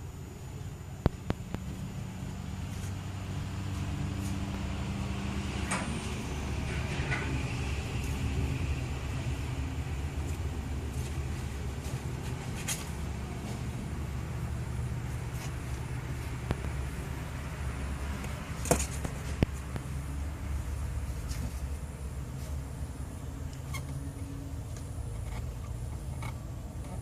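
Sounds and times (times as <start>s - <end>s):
low mechanical rumble: 0.0s - 27.0s.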